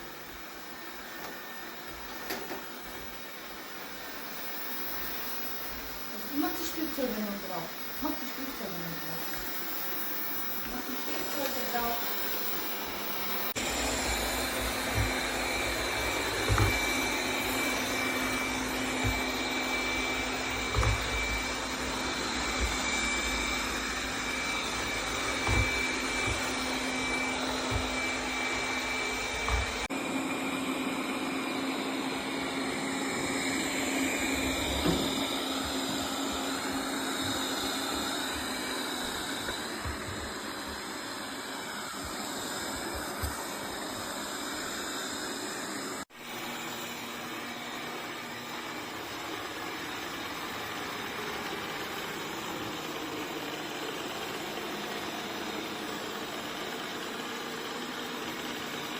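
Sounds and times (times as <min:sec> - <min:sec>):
robot vacuum whirring: 0:00.0 - 0:58.9.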